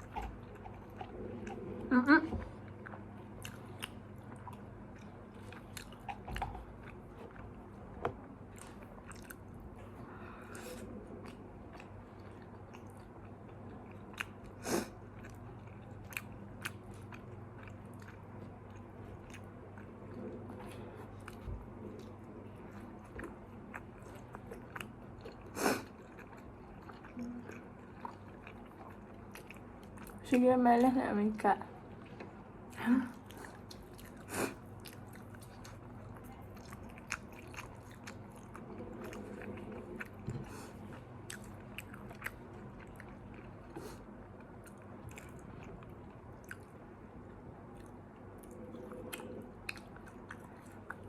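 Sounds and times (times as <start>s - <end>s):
chewing and biting food: 0.0s - 1.8s, 2.4s - 10.2s, 10.8s - 30.2s, 31.9s - 51.0s
steady fan hum: 0.0s - 51.0s.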